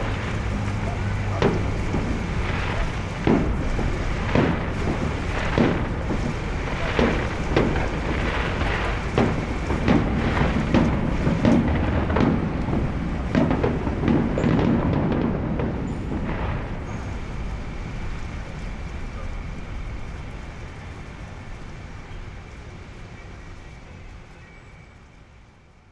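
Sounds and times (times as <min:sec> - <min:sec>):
fireworks banging: 0:00.0 - 0:25.1.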